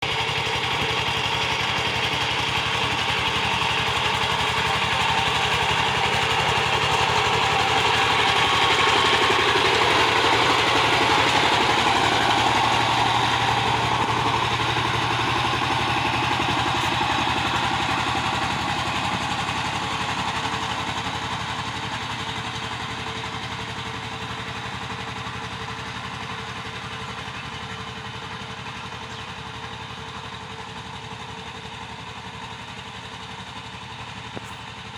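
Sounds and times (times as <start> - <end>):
tiller engine running: 0.0 - 34.9.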